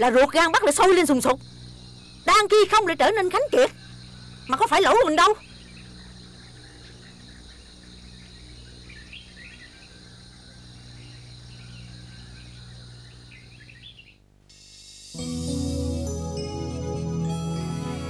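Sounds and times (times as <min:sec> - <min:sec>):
small birds chirping: 0:00.0 - 0:15.1
insect drone: 0:00.0 - 0:18.0.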